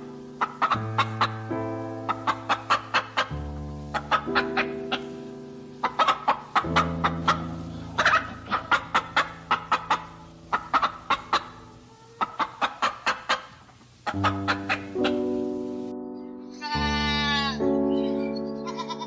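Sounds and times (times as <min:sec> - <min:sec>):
background music with held notes: 0:00.0 - 0:13.2, 0:14.0 - 0:19.0
chicken clucking: 0:00.0 - 0:15.9.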